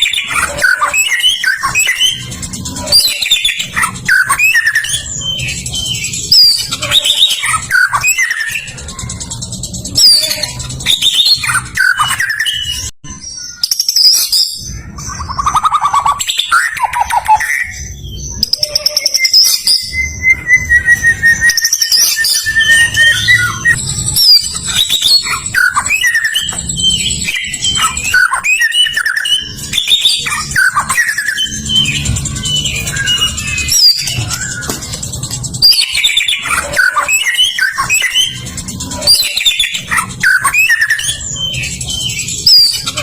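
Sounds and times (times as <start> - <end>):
songbird singing whistles and trills: 0.0 - 43.0.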